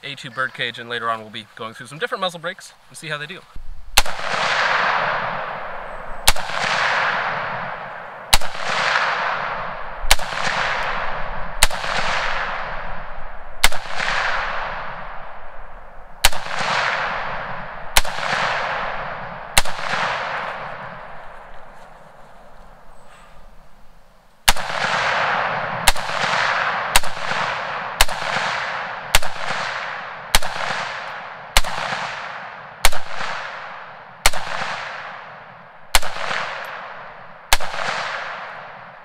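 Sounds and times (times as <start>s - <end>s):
rifle shots with echo: 4.0s - 22.1s, 24.4s - 39.0s.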